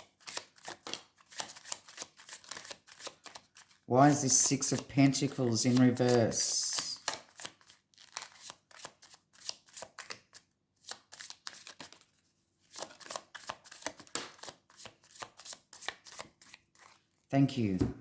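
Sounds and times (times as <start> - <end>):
cards shuffling: 0.2 - 12.1, 12.7 - 17.0.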